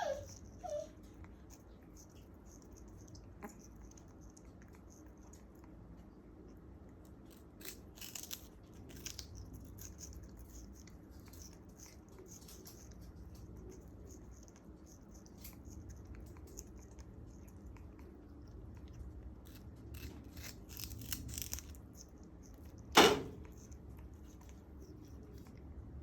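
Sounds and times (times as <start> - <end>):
parrot chewing sugarcane: 0.0 - 26.0.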